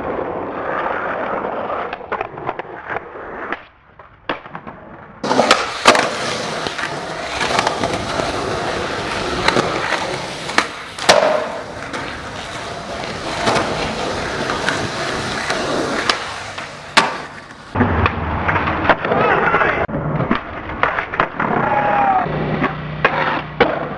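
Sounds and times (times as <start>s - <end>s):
skateboard wheels rolling on concrete: 0.0s - 23.9s
skateboard clacking on ground: 0.6s - 22.0s, 22.6s - 23.9s.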